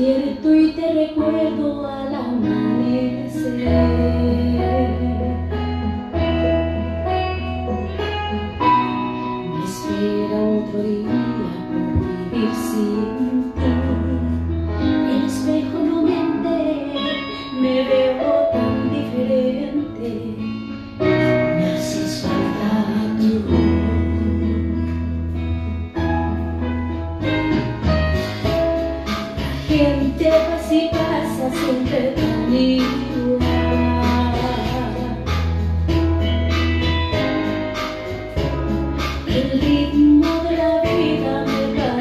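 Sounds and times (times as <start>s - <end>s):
woman singing a romantic ballad: 0.0s - 26.0s, 27.9s - 42.0s
guitar and bass backing track: 0.0s - 42.0s.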